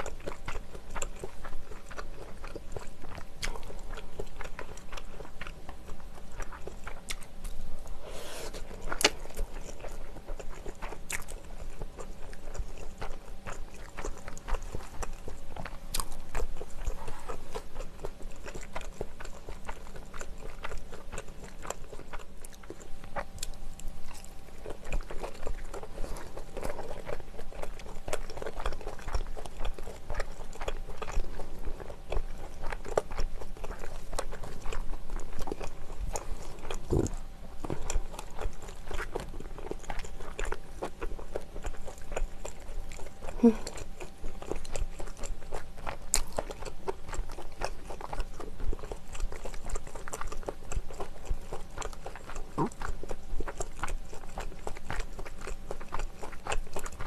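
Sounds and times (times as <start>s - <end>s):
close chewing sounds: 0.0s - 57.0s.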